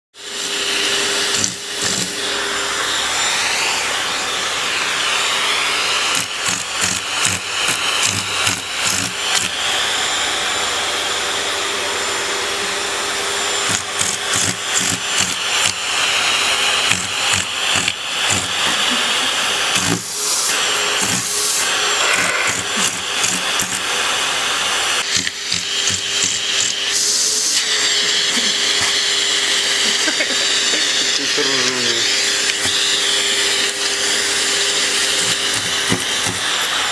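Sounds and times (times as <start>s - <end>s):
vacuum cleaner running: 0.2s - 36.9s.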